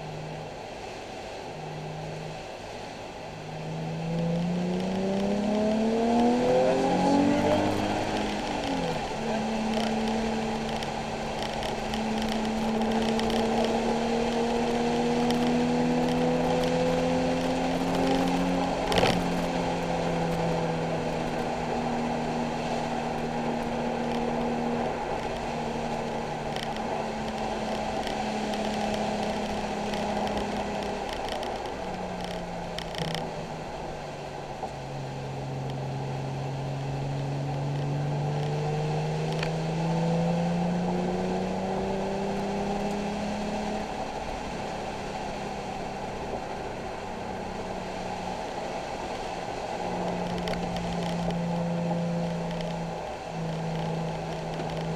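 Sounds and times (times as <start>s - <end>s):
car engine under load: 0.0s - 54.9s
road noise hiss: 0.0s - 54.9s.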